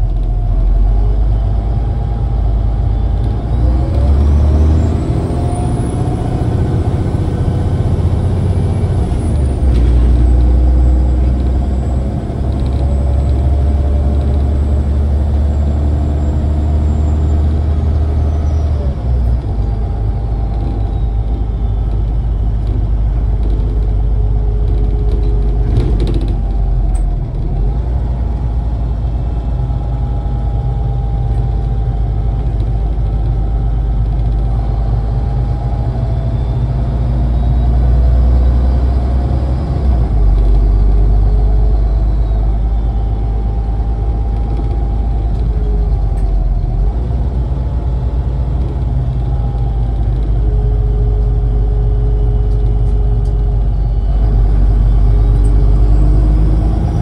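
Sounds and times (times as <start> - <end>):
bus engine rumble: 0.0 - 57.0
transmission whine: 0.0 - 57.0.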